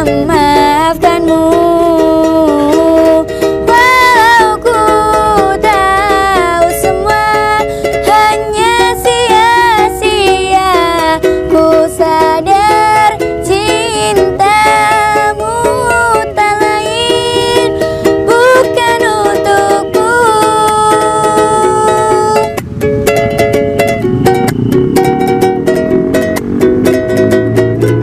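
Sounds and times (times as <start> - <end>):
person singing: 0.0 - 22.6
plucked strings: 0.0 - 28.0.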